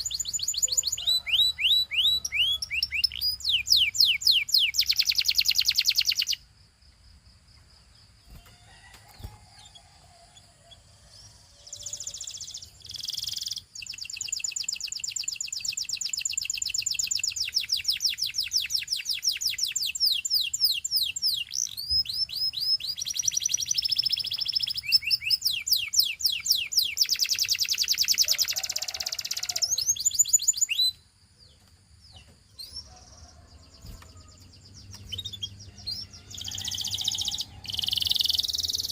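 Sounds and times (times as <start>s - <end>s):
canary singing trills: 0.0s - 6.4s, 8.0s - 38.9s.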